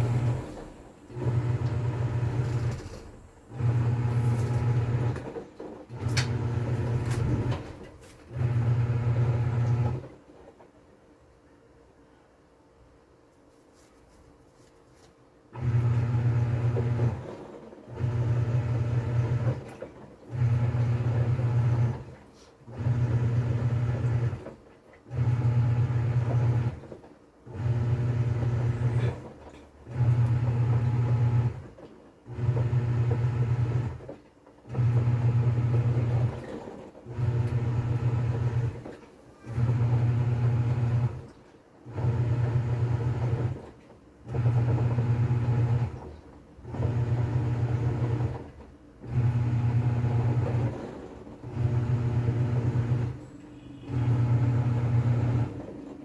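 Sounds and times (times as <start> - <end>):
washing machine motor humming: 0.0 - 10.7, 15.5 - 56.0.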